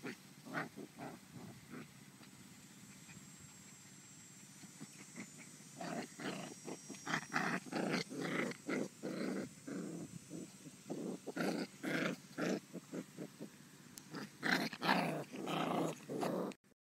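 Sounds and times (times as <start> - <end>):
puppies growling and grunting: 0.0 - 2.1, 4.6 - 16.6.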